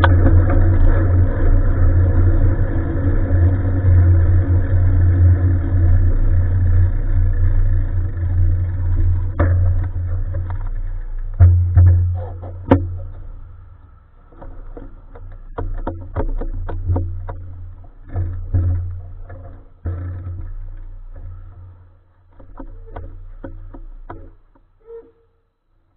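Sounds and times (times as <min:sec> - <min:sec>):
bicycle tyre and wind rumble: 0:00.0 - 0:25.9.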